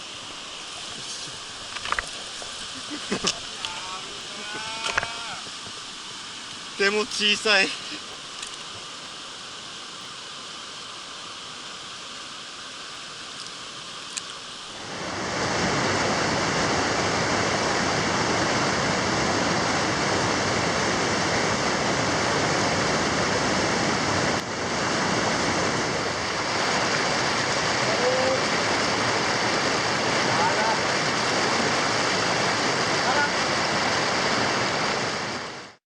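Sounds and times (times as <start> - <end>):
stream rushing over rocks: 0.0 - 35.8.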